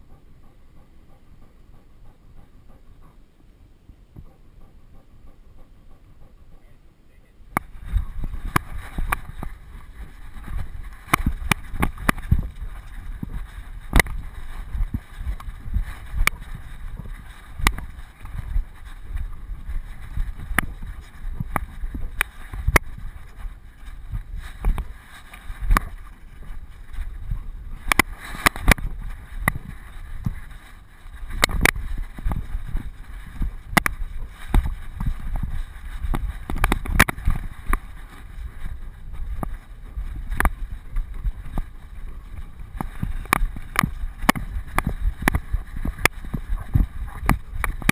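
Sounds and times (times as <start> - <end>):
low rumble: 0.0 - 47.9
wind buffeting microphone: 7.5 - 47.9.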